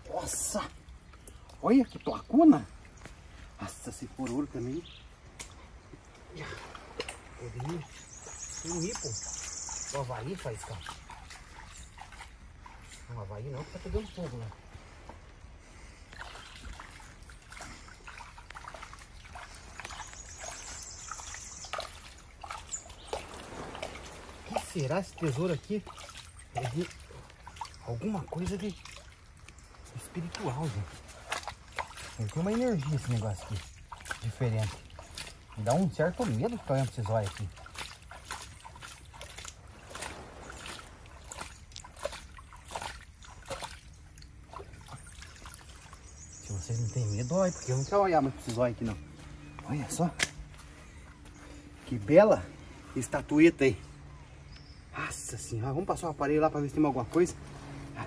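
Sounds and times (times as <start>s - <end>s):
muddy water trickling and splashing: 0.0s - 58.0s
small wet clicks: 0.8s - 3.5s, 5.2s - 8.0s, 8.8s - 46.2s, 48.3s - 51.9s.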